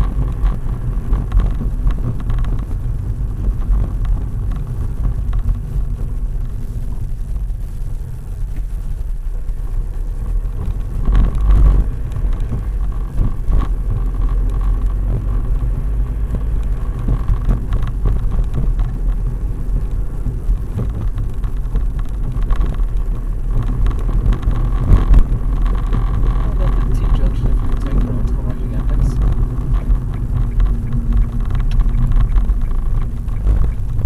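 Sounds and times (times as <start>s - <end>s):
car engine and road rumble: 0.0s - 34.0s.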